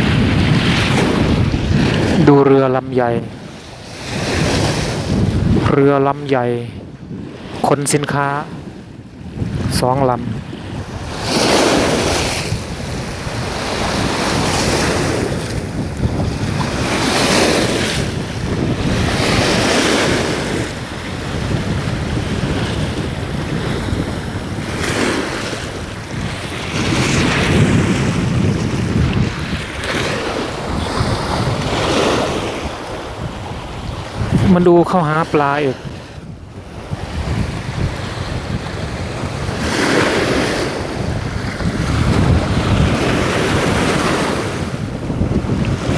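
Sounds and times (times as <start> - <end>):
sea waves washing in: 0.0 - 45.9
wind buffeting microphone: 0.0 - 45.9.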